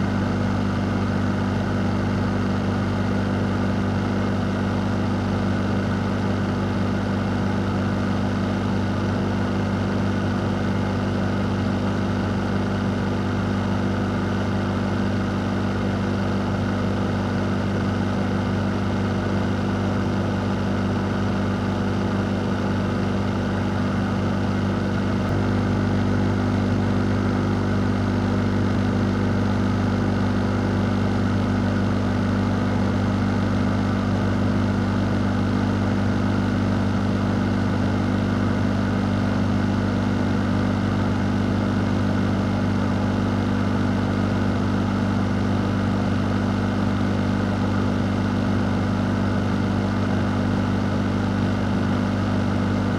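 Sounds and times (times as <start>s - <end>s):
electric fan running: 0.0s - 52.9s.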